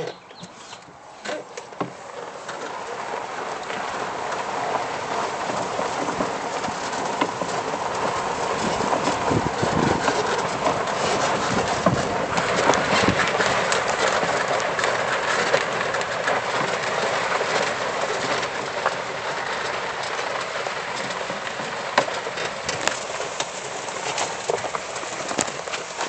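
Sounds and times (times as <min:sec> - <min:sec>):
cart clicks and rattles: 0:00.0 - 0:26.0
tyres rolling over gravel and leaves: 0:00.0 - 0:26.0.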